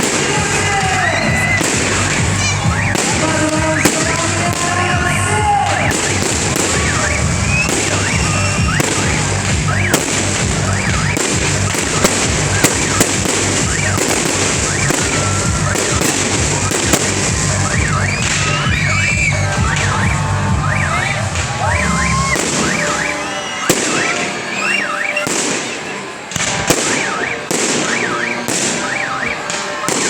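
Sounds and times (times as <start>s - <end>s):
fireworks bangs and crackling: 0.0s - 30.0s
fireworks whistling: 0.0s - 30.0s
music playing: 0.0s - 30.0s.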